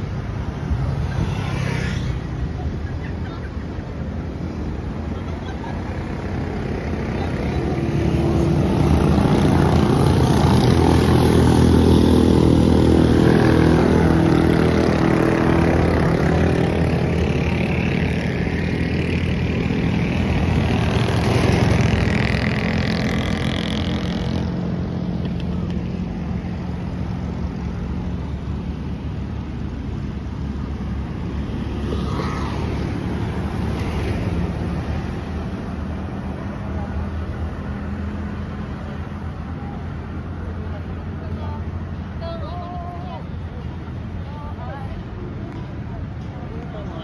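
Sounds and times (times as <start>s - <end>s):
motorcycles passing: 0.0s - 47.0s
steady traffic hum: 0.0s - 47.0s.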